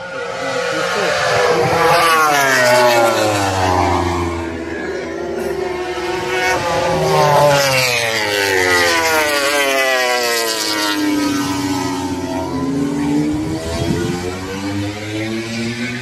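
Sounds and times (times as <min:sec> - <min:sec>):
racing motorcycle passing at speed: 0:00.0 - 0:16.0.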